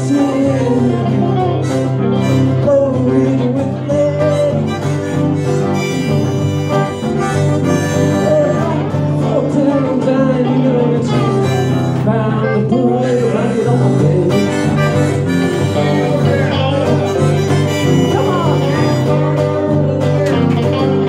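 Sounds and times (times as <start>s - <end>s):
amplified harmonica lead: 0.0s - 21.0s
electric guitar: 0.0s - 21.0s
strummed acoustic guitar: 0.0s - 21.0s.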